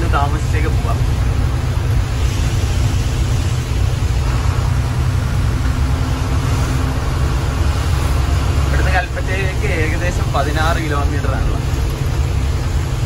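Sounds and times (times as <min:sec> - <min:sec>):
lorry engine rumbling: 0:00.0 - 0:13.0
wet road noise: 0:00.0 - 0:13.0.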